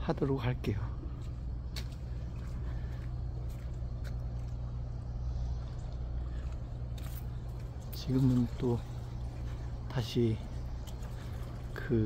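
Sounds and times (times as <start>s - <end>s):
ship machinery humming: 0.0s - 12.0s.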